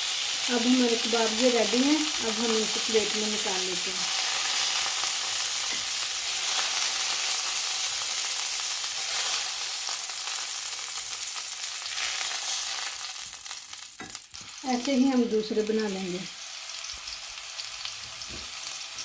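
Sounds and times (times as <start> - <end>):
oil sizzling in a frying pan: 0.0 - 19.0.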